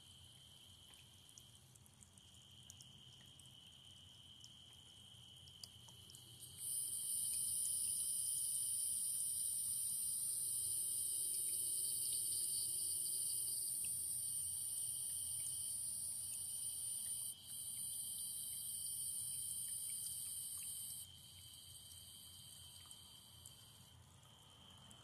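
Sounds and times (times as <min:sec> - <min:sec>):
night insects trilling: 0:00.0 - 0:25.0.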